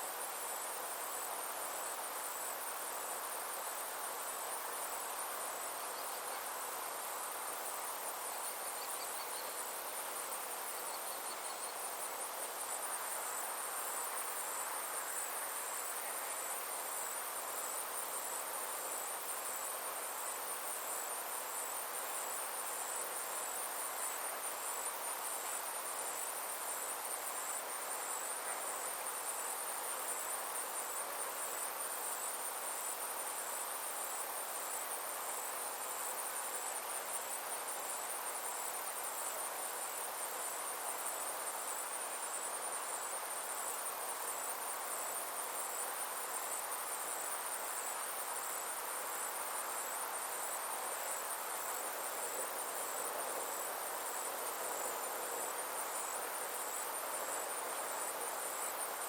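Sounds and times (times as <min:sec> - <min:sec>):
insects trilling: 0:00.0 - 0:59.0
soft background hiss: 0:00.0 - 0:59.0.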